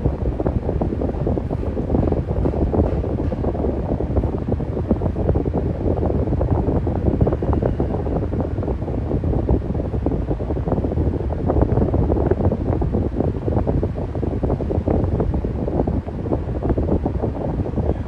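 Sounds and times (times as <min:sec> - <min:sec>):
airflow buffeting microphone: 0:00.0 - 0:18.0
electric fan running: 0:00.0 - 0:18.0.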